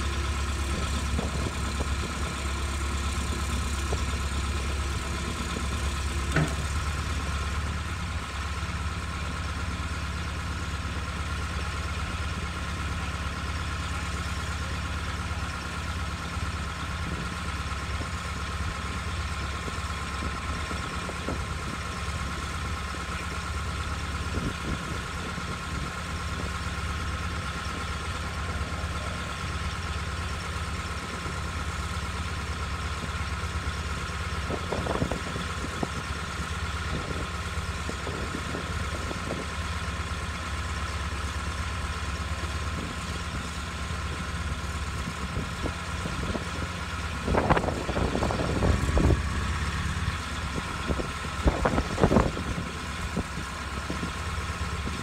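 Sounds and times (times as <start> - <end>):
crane engine idling: 0.0 - 55.0.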